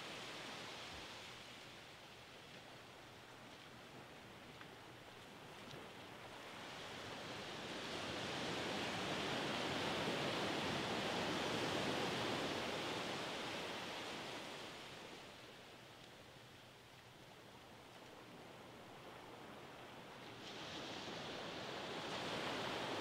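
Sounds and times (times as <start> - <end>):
wave wash hissing on sand: 0.0 - 15.9, 17.4 - 23.0.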